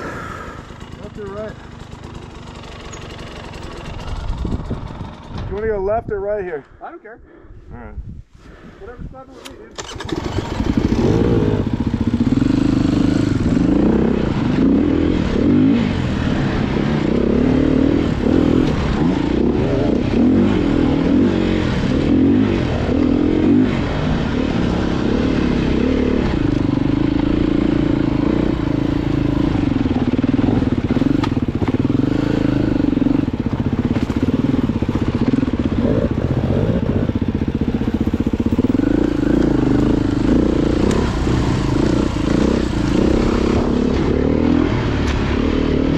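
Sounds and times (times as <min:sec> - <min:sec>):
off-road motorcycle engine revving: 0:00.0 - 0:05.9, 0:09.6 - 0:45.9.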